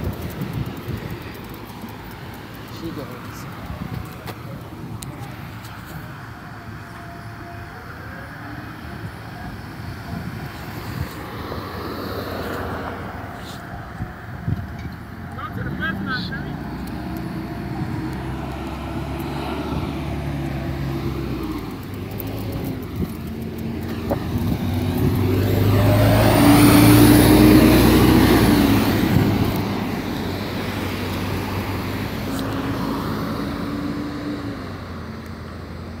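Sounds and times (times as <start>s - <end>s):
road traffic: 0.0s - 36.0s
diesel bus driving past: 4.4s - 36.0s.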